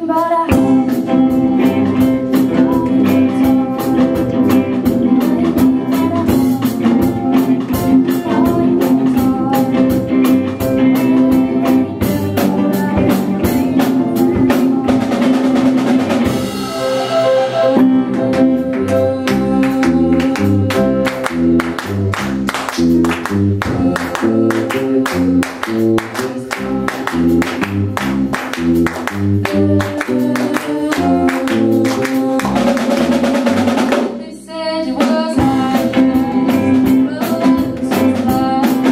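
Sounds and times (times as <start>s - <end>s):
bass line: 0.0s - 38.9s
drums driving beat: 0.0s - 38.9s
live rock band playing: 0.0s - 38.9s.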